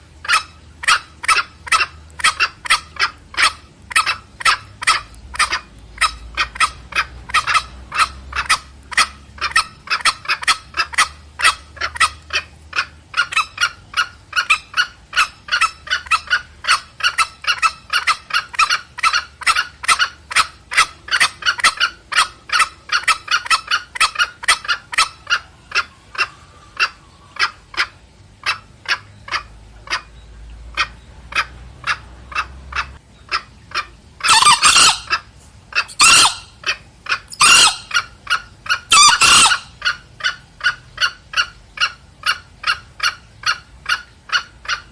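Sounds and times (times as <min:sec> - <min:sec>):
junglefowl clucking calls: 0:00.0 - 0:44.9.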